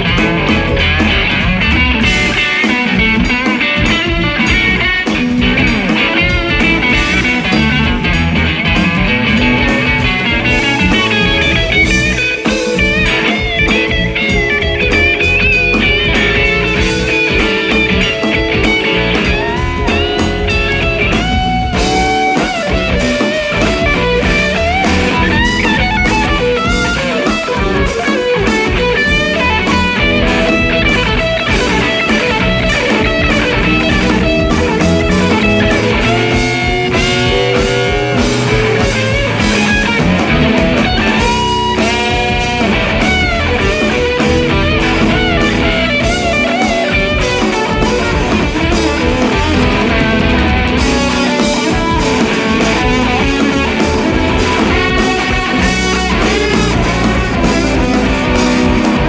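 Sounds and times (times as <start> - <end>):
drum kit: 0.0 - 59.0
electric guitar blues rock lead: 0.0 - 59.0.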